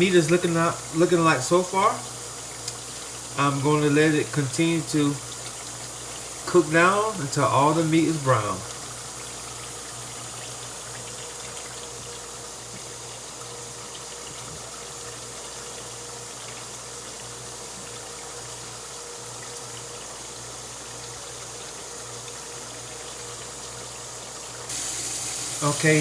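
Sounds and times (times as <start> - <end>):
ground beef sizzling in a pot: 0.0 - 26.0.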